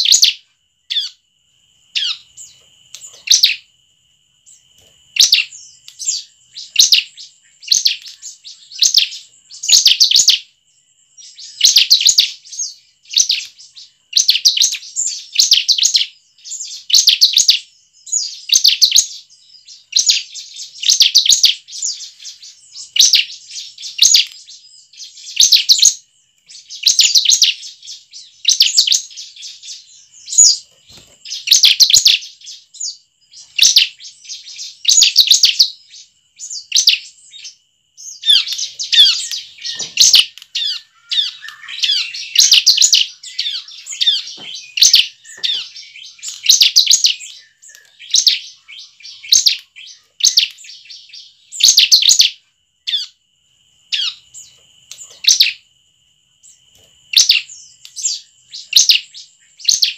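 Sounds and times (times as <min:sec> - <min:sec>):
bird chirping rapidly: 0:00.0 - 0:01.2, 0:01.9 - 0:03.6, 0:04.5 - 0:10.5, 0:11.2 - 0:53.1, 0:53.9 - 0:54.6, 0:55.2 - 0:55.6, 0:57.1 - 0:59.9.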